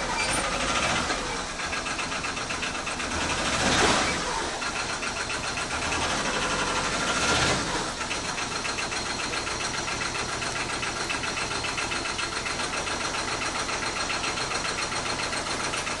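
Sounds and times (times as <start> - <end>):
quad bike engine idling: 0.0 - 16.0.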